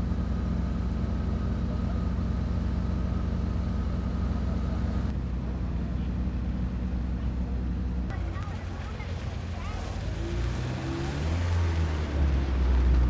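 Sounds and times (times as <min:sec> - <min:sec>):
car engines idling: 0:00.0 - 0:13.0.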